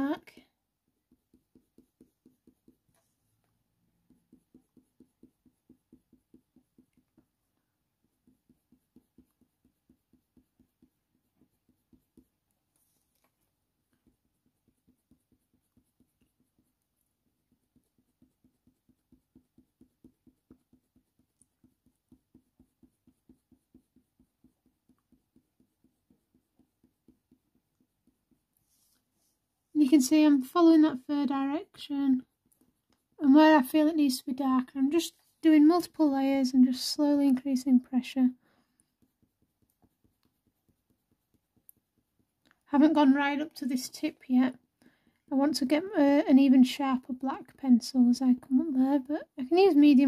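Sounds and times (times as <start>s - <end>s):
pencil strokes on paper: 0.0s - 50.0s.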